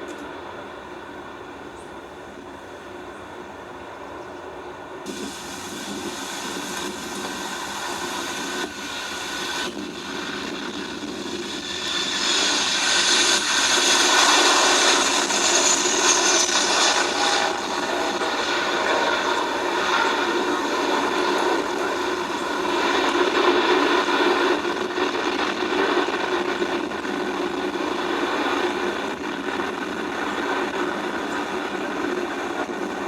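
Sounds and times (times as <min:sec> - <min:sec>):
jet airliner passing: 0:05.1 - 0:33.0.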